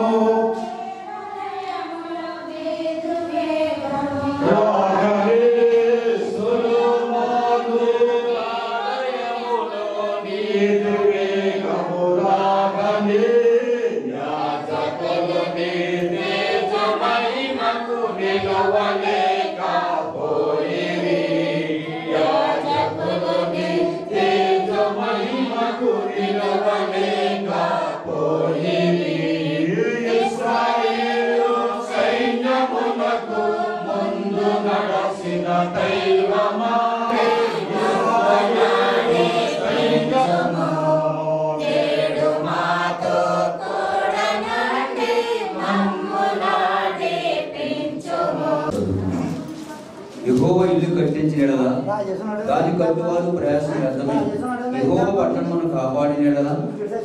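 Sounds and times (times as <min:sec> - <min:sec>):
group singing a hymn: 0:00.0 - 0:51.7, 0:52.4 - 0:56.8.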